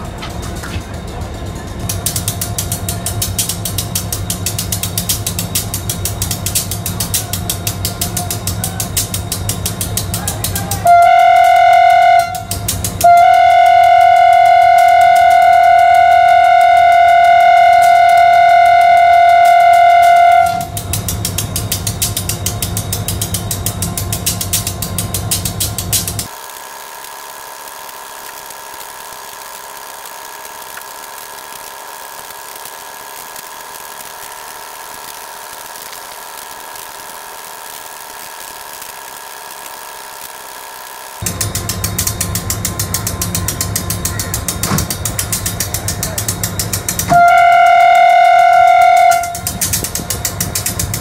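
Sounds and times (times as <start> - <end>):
diesel locomotive idling: 0.0 - 51.0
rapid mechanical ticking: 0.0 - 51.0.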